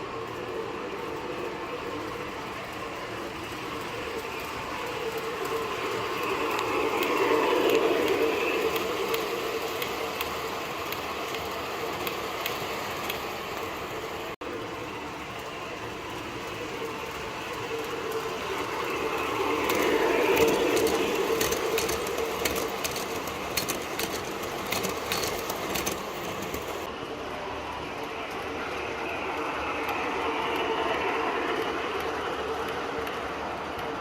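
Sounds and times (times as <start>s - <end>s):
subway train rumble: 0.0s - 34.0s
wheels clicking on rail joints: 0.0s - 34.0s.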